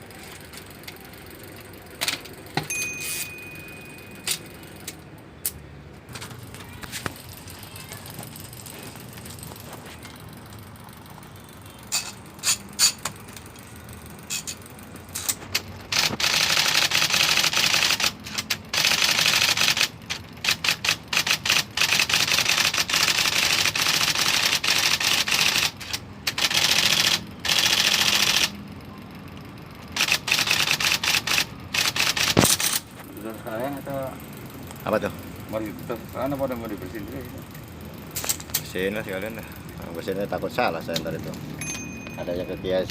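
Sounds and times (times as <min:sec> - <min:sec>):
electric typewriter typing: 0:06.1 - 0:41.4.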